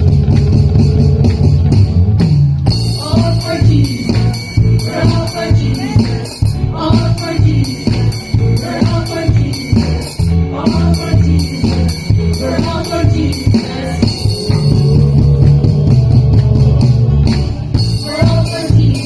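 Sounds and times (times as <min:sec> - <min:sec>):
church band music: 0:00.0 - 0:19.0
person singing: 0:02.9 - 0:19.0.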